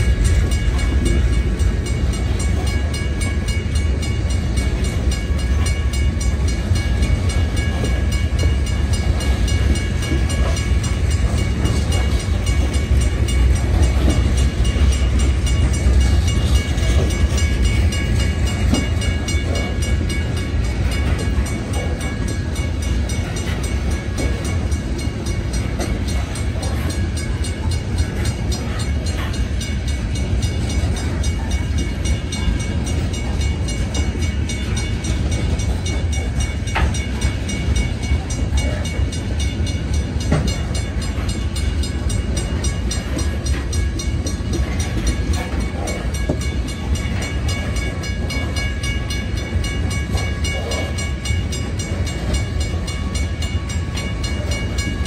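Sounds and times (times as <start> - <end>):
crossing signal bell ringing: 0.0 - 55.0
train wheels rumbling on rails: 0.0 - 55.0.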